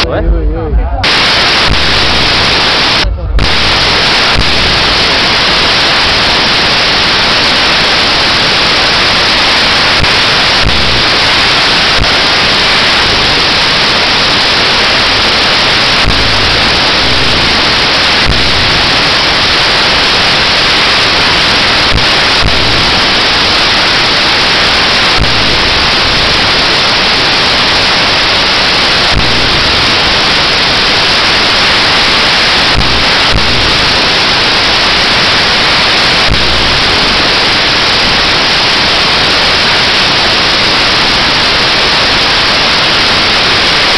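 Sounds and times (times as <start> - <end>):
static-like hiss: 0.0 - 43.9.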